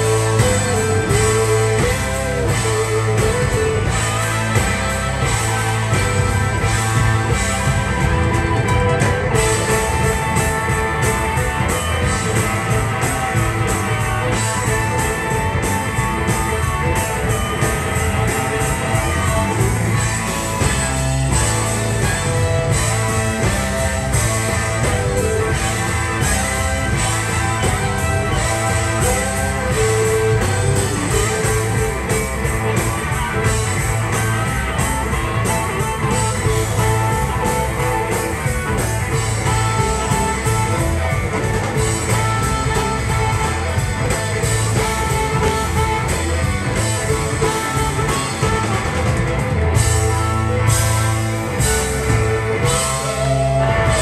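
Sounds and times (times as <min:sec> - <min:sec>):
drum kit: 0:00.0 - 0:54.0
electric bass: 0:00.0 - 0:54.0
electric guitar: 0:00.0 - 0:54.0
harmonica: 0:00.0 - 0:54.0.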